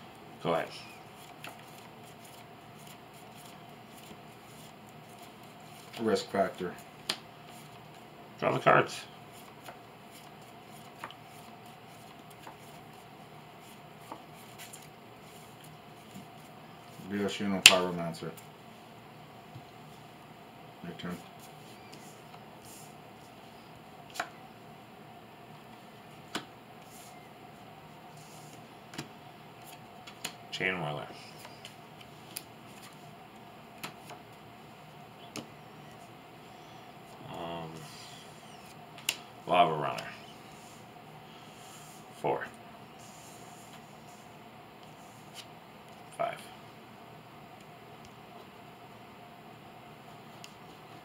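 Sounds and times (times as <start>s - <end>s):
faint room hum: 0.0s - 51.0s.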